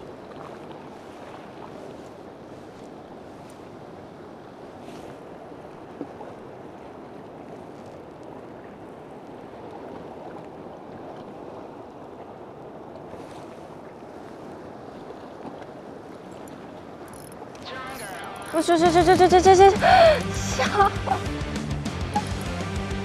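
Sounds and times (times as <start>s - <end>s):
sea waves against rocky shore: 0.0s - 18.4s.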